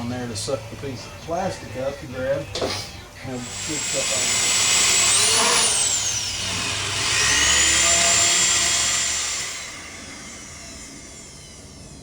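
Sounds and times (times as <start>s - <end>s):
vacuum cleaner whining: 1.3s - 12.0s.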